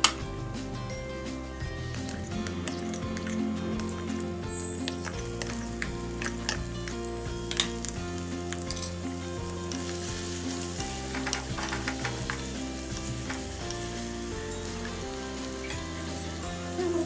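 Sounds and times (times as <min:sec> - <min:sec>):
background music: 0:00.0 - 0:17.0
food sizzling in hot oil: 0:00.0 - 0:17.0
stirring in a pan: 0:01.3 - 0:17.0.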